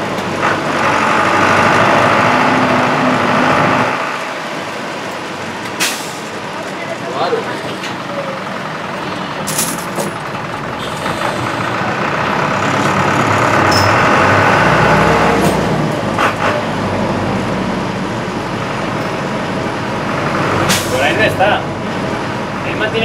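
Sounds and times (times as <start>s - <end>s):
bus engine and cabin noise: 0.0s - 23.0s.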